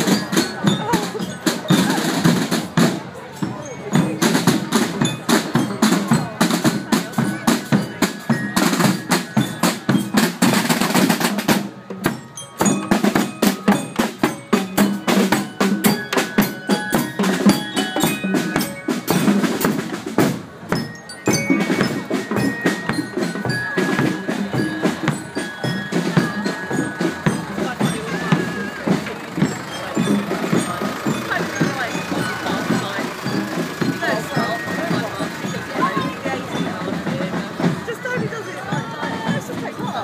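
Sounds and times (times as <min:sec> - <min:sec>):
glockenspiel notes: 0:00.0 - 0:40.0
marching drums: 0:00.0 - 0:40.0.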